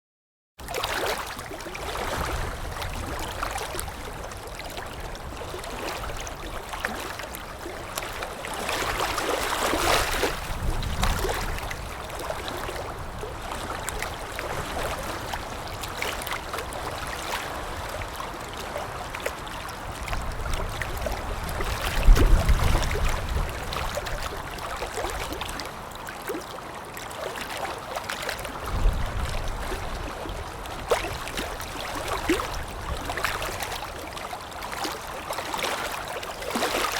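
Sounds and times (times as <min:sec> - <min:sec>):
water lapping against shore: 0:00.6 - 0:36.9.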